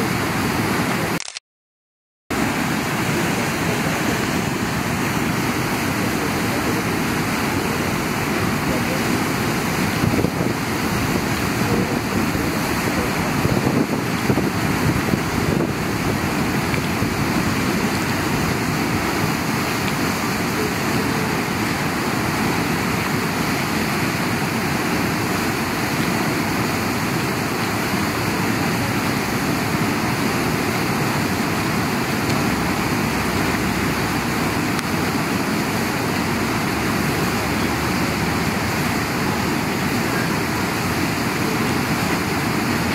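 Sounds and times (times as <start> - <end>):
steady rushing noise: 2.3 - 42.9.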